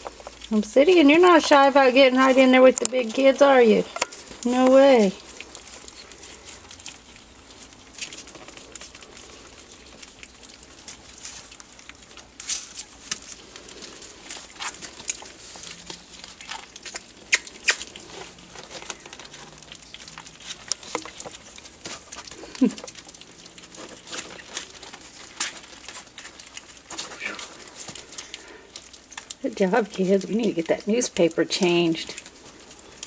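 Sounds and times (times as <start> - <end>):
puppies smacking and lapping food: 0.0 - 33.0.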